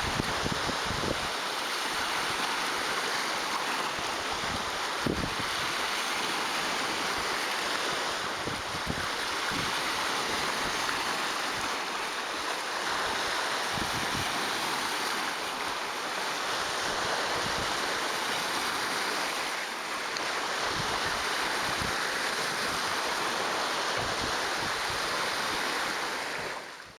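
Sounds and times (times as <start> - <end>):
waves breaking against rocks: 0.0 - 26.9.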